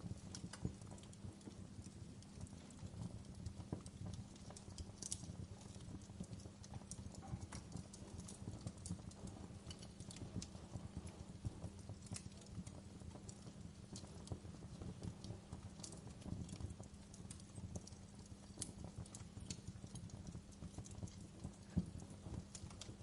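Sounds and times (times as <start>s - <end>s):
fire crackling and popping: 0.0s - 23.0s
low rumble of flames: 0.0s - 23.0s.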